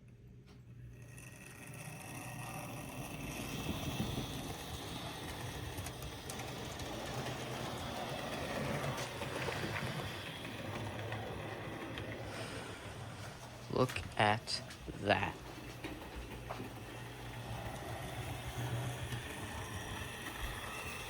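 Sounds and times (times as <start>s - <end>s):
model train motor whirring: 0.8s - 13.6s, 15.1s - 21.0s.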